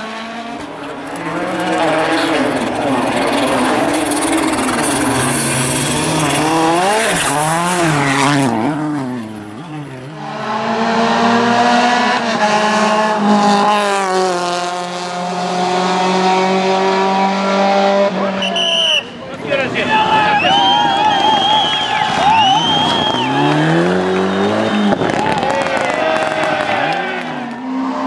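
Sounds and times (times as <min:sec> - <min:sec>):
rally car engine revving: 0:00.0 - 0:18.5, 0:19.4 - 0:28.0.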